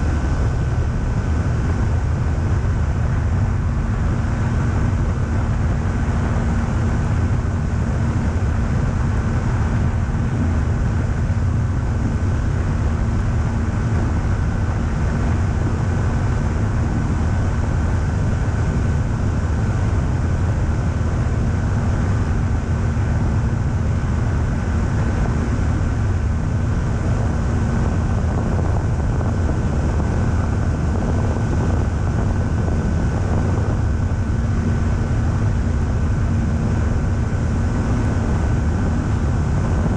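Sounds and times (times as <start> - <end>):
aircraft engine and propeller: 0.0 - 39.9
thin steady whine: 0.0 - 39.9
wind rushing over microphone: 0.0 - 39.9.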